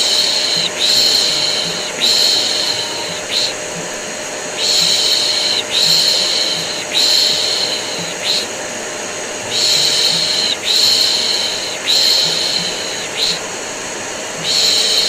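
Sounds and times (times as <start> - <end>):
person shushing: 0.0 - 8.6, 9.4 - 13.5, 14.4 - 15.0
vacuum cleaner droning: 0.0 - 15.0.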